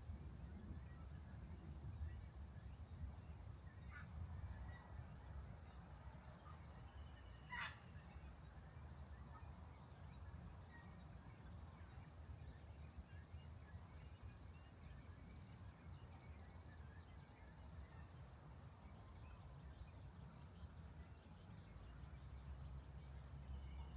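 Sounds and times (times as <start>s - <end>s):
faint low outdoor rumble: 0.0s - 23.9s.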